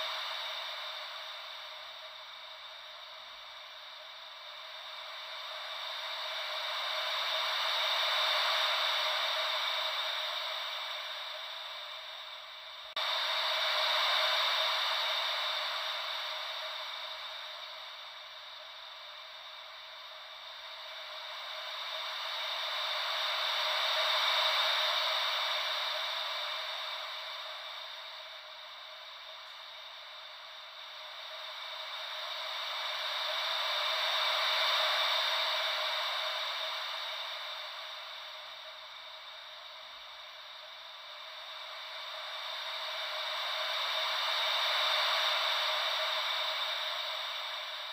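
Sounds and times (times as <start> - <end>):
ocean wave white noise: 0.0 - 47.9.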